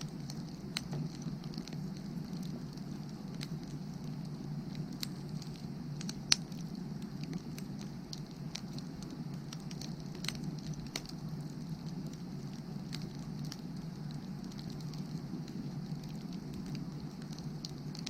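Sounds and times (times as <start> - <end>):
firewood crackling and popping: 0.0 - 18.0
low rush of fire: 0.0 - 18.0.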